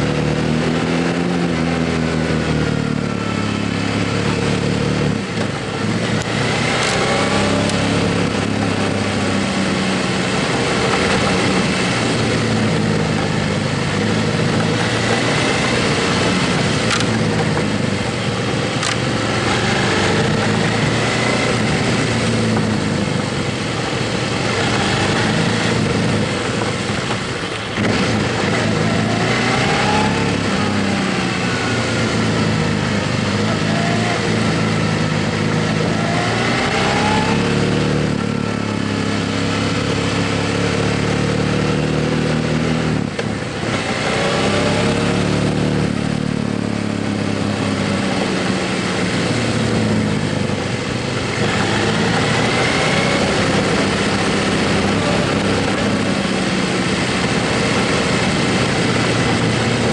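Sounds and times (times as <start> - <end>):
motorcycle engine accelerating: 0.0 - 59.9
steady rushing noise: 0.0 - 59.9.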